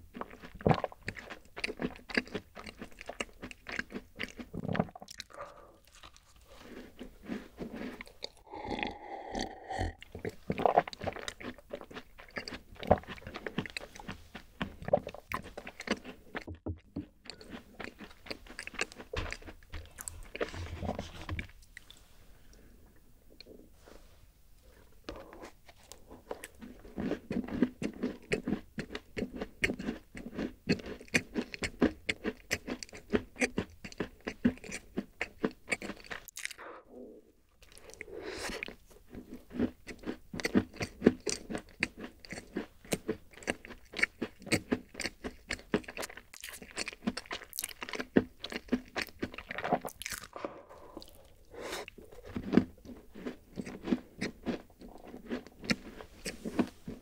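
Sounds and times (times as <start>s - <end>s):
cookie crunching chewing: 0.1s - 21.9s, 24.7s - 36.7s, 37.6s - 57.0s.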